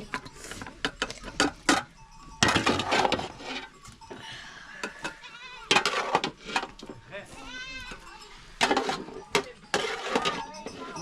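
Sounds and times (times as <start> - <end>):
pots and utensils clinking: 0.0 - 7.2, 7.9 - 11.0.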